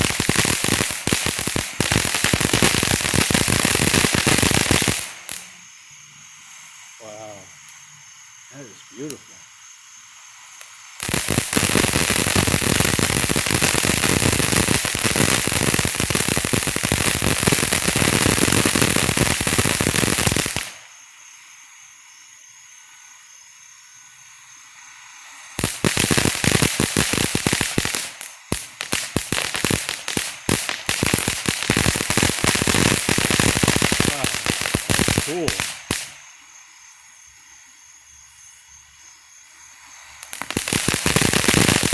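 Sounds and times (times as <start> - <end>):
firework fountain crackling: 0.0 - 21.8, 24.0 - 36.8, 37.4 - 41.9
firework fountain hissing: 0.0 - 41.9.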